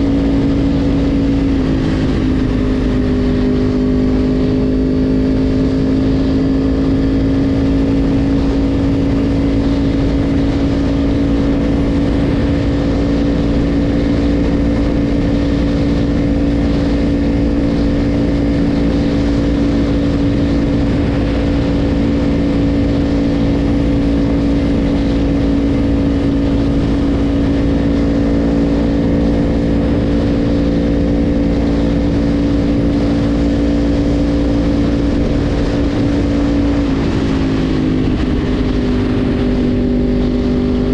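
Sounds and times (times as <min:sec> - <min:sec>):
motorcycle engine cruising: 0:00.0 - 0:40.9
wind and road rush: 0:00.0 - 0:40.9.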